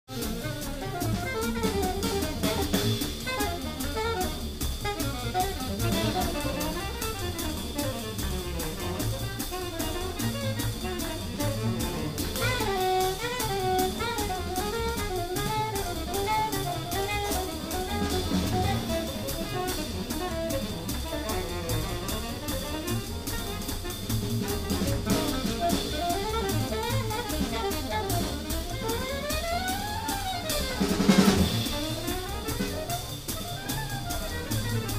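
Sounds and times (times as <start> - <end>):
drum kit played with sticks: 0.0 - 34.9.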